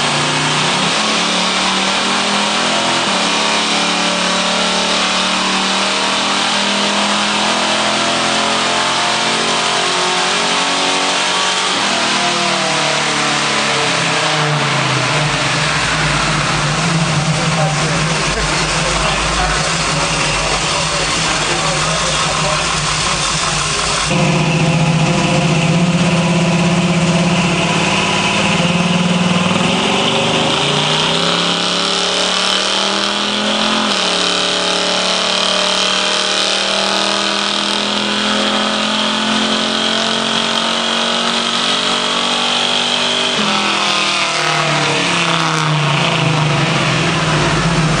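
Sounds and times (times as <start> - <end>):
car engine under load: 0.0 - 48.0
high whine of tyres on rollers: 0.0 - 48.0.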